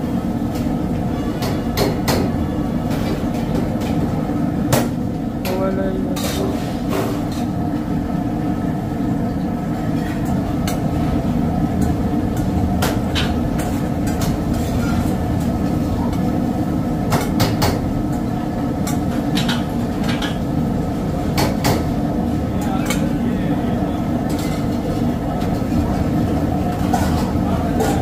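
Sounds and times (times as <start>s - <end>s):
kitchen equipment rumble: 0.0s - 28.0s.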